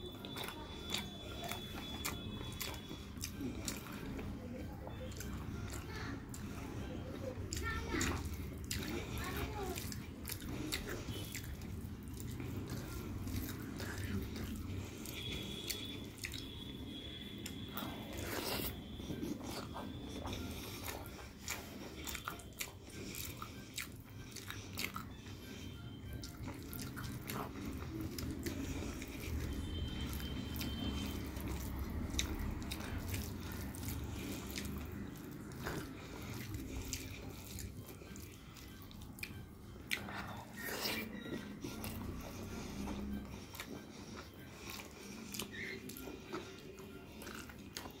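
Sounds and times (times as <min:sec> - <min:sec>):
chewing and mouth sounds: 0:00.0 - 0:48.0.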